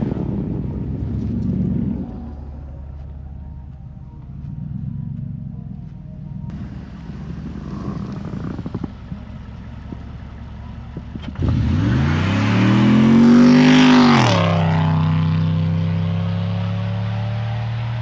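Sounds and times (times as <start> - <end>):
car engine revving: 0.0 - 18.0
low rumble: 0.0 - 18.0.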